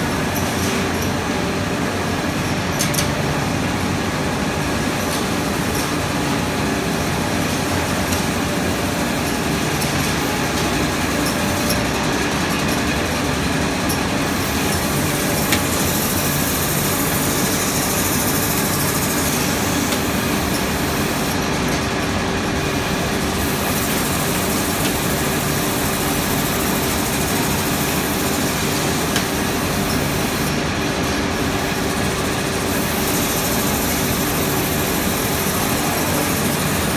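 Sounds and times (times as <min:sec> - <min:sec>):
factory machines running: 0:00.0 - 0:36.9.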